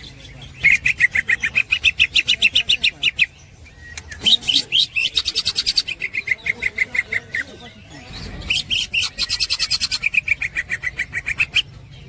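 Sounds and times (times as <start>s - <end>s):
bird chattering song: 0.0s - 12.0s.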